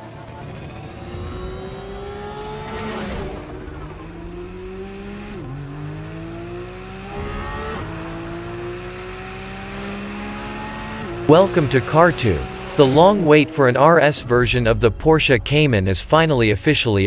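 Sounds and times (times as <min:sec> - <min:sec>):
sports car engine accelerating: 0:00.0 - 0:14.7.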